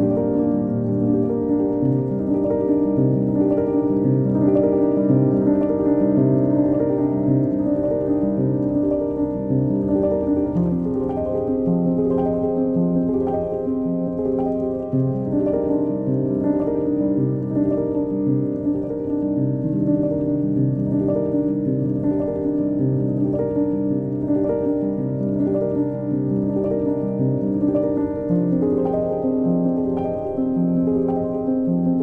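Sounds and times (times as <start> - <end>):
soft piano music: 0.0 - 32.0.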